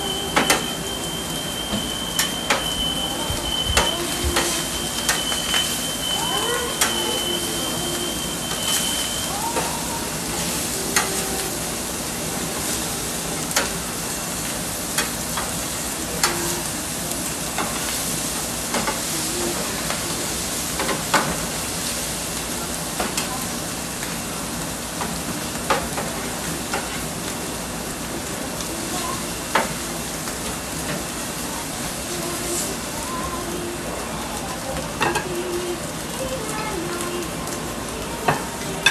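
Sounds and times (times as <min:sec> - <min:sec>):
food sizzling on a griddle: 0:00.0 - 0:38.9.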